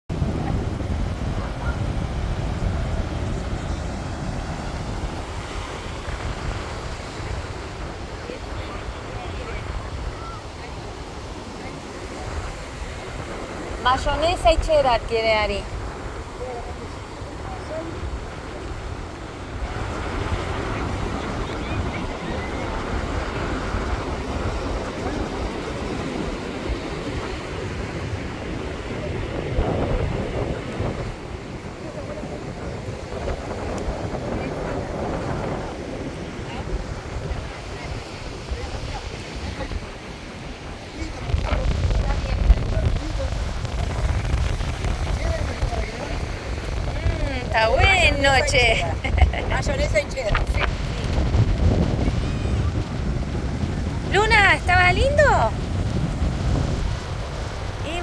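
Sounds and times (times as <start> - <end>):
breaking surf: 0.1 - 58.0
wind buffeting microphone: 0.1 - 58.0.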